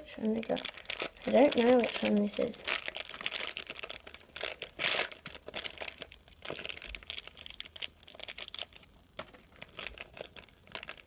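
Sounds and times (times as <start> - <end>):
plastic bag crinkling and tearing: 0.1 - 11.0.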